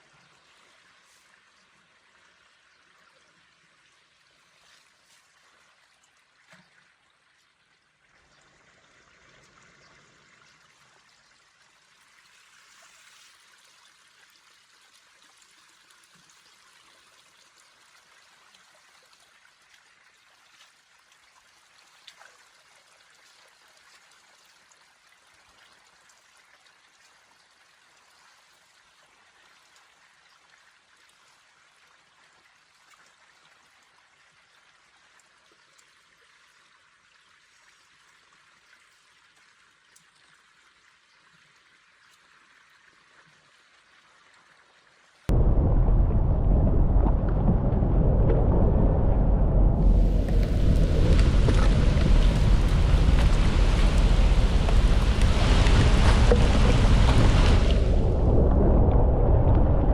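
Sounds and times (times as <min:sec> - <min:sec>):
trickle of flowing water: 0:00.0 - 0:59.9.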